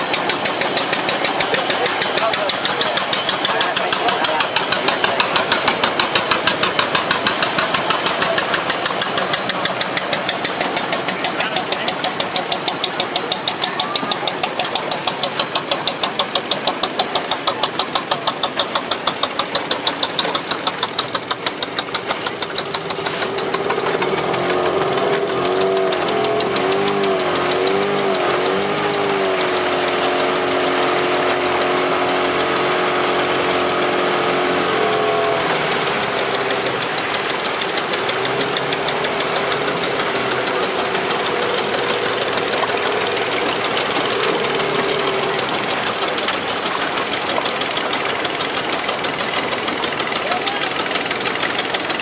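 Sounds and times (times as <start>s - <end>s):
boat engine knocking: 0.0s - 52.0s.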